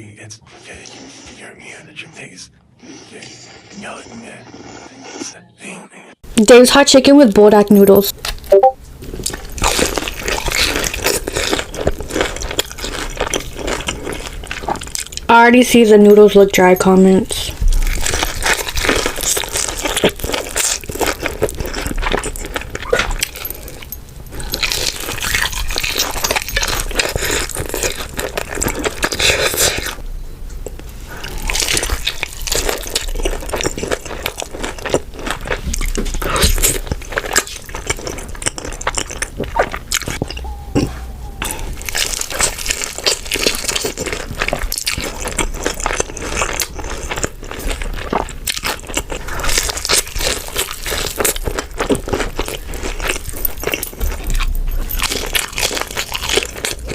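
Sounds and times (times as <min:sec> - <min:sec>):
crunchy chewing: 0:08.1 - 0:15.3, 0:17.4 - 0:30.0, 0:30.6 - 0:56.9.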